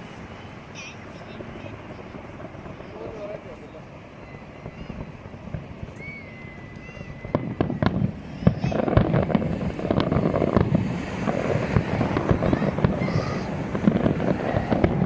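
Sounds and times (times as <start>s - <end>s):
firework whistle: 0.0s - 15.0s
firework cracks and bangs: 0.9s - 15.0s.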